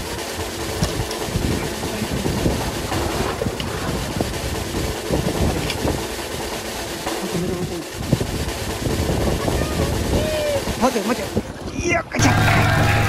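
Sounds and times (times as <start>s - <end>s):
wind buffeting microphone: 0.0s - 12.2s
boat background noise: 0.0s - 13.0s.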